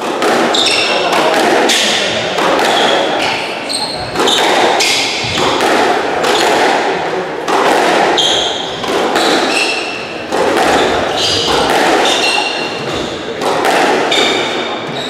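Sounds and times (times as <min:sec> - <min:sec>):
squash ball smacking racquets and walls: 0:00.0 - 0:15.0
sneakers squeaking on wooden floor: 0:00.2 - 0:05.6, 0:08.0 - 0:15.0.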